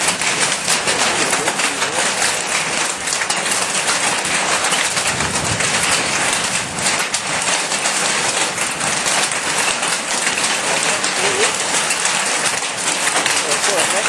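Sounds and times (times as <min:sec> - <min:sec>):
hail falling heavily: 0:00.0 - 0:14.0.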